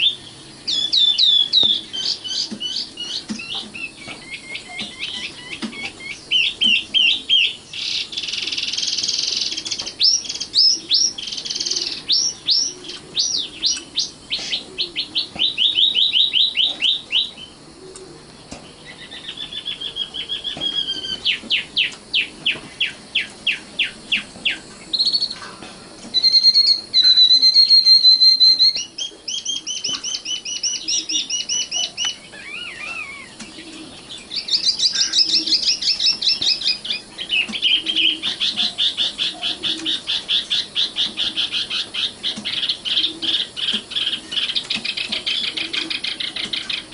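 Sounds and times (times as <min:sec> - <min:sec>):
nightingale singing: 0:00.0 - 0:46.9.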